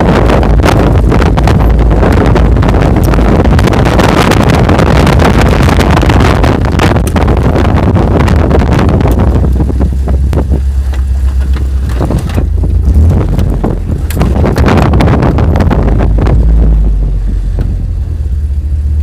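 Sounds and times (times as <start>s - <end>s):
vehicle low rumble: 0.0s - 19.0s
wind buffeting microphone: 0.0s - 19.0s
knocks and rattles: 0.7s - 16.4s.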